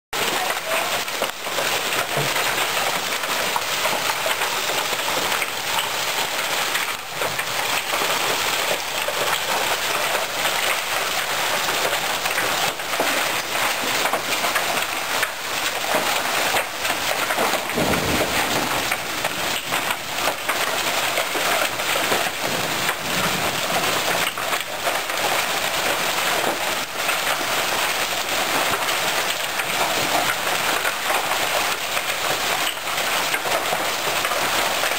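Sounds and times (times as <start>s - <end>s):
hail and heavy rain pounding: 0.2s - 34.9s
hailstones striking surfaces: 0.2s - 34.9s.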